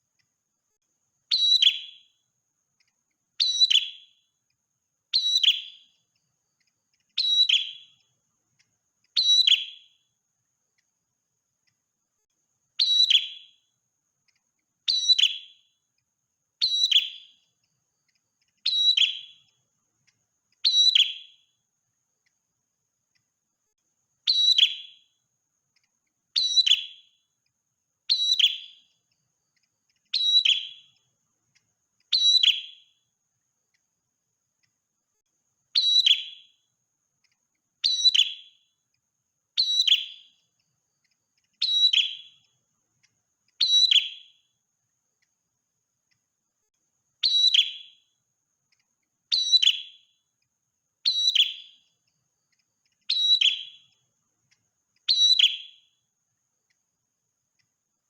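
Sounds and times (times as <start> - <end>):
songbird calling: 1.2 - 11.0, 12.7 - 23.4, 24.2 - 34.0, 35.6 - 38.8, 39.5 - 45.4, 47.1 - 50.4, 51.0 - 57.0.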